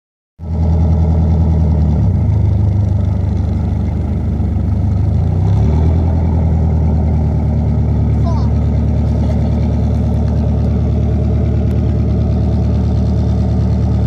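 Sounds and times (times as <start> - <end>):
boat engine humming: 0.5 - 14.0.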